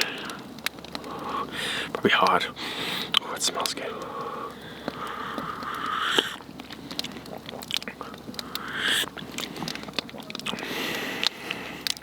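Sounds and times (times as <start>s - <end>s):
chewing: 0.0s - 12.0s
wet mouth clicks: 0.0s - 12.0s
person slurping soup: 1.0s - 12.0s.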